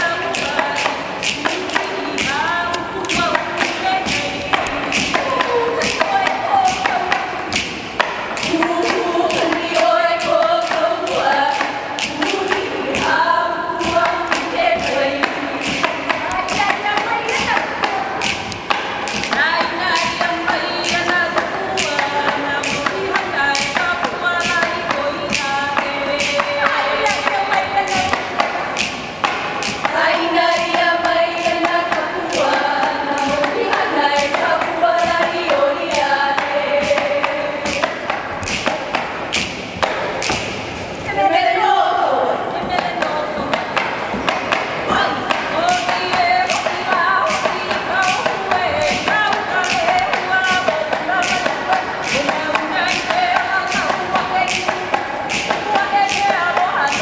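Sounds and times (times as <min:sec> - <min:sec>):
gourd drum strikes: 0:00.0 - 0:13.2, 0:13.8 - 0:40.8, 0:42.6 - 0:57.0
several voices chanting: 0:00.0 - 0:39.0, 0:41.0 - 0:57.0.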